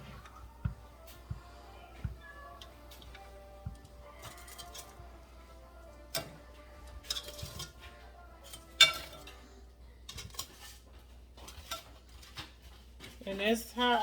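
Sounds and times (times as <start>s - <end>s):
kitchen utensils and dishes clinking: 0.0s - 14.0s.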